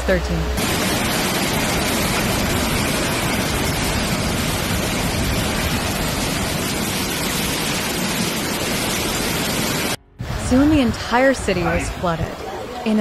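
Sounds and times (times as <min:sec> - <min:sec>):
loud rush of water: 0:00.6 - 0:13.0.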